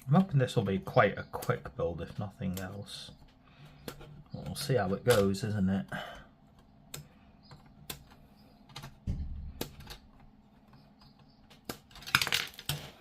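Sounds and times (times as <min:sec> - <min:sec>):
plastic parts clicking and tapping: 0:00.0 - 0:13.0.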